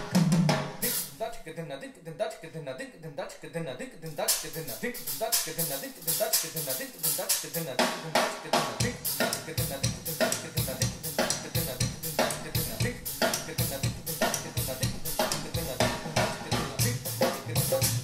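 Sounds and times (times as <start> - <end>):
drum kit playing: 0.0 - 1.2, 4.3 - 18.0.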